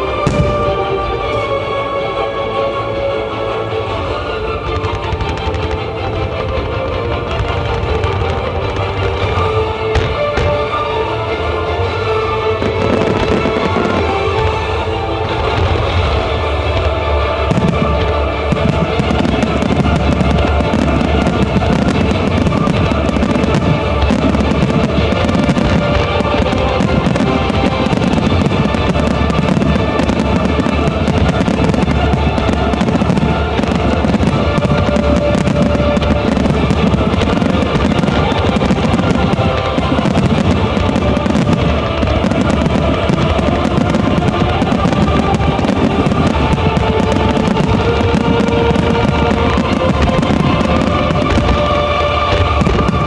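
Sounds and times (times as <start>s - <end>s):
fireworks booming and crackling: 0.0s - 1.6s, 3.9s - 10.9s, 11.8s - 53.0s
music playing: 0.0s - 53.0s.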